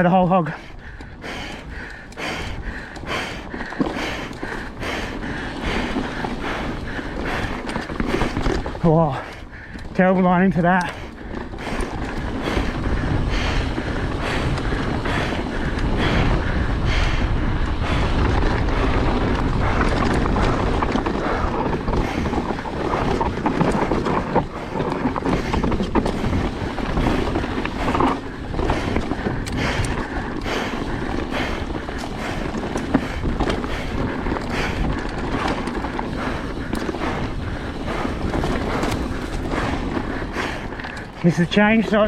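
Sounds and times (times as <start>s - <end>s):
bike rattling over bumps: 0.0s - 42.0s
bike tyre noise: 0.0s - 42.0s
wind buffeting microphone: 0.0s - 42.0s.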